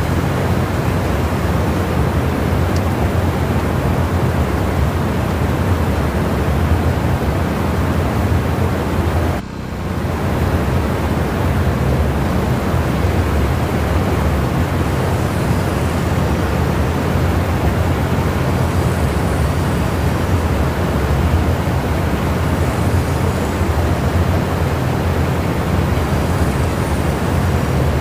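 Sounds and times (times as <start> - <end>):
portable generator engine humming: 0.0 - 28.0.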